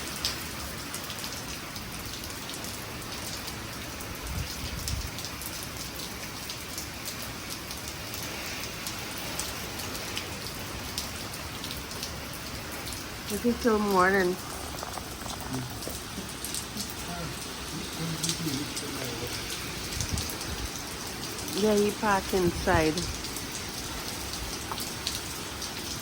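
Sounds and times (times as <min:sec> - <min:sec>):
heavy rain falling: 0:00.0 - 0:26.0
raindrops ticking on surfaces: 0:00.0 - 0:26.0.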